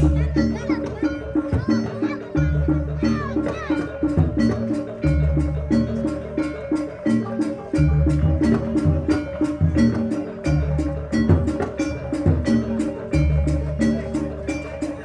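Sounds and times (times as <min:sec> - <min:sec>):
drums beating: 0:00.0 - 0:15.0.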